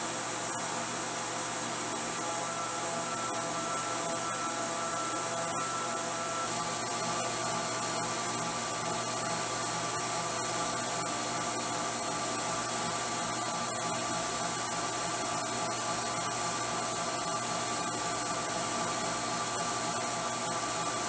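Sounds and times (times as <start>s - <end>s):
milling machine spindle whine: 0.0s - 21.0s.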